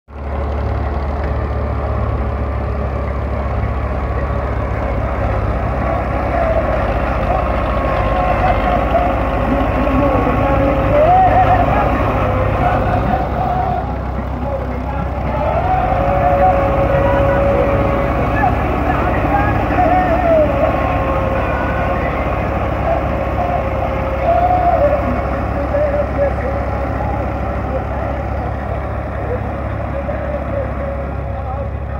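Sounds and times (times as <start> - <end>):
tractor diesel engine throbbing: 0.1 - 31.9.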